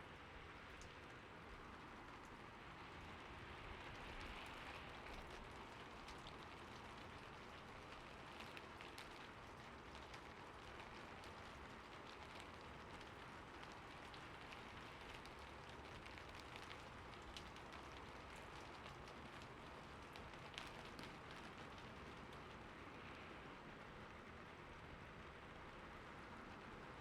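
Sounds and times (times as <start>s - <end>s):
faint rain falling: 0.0s - 27.0s.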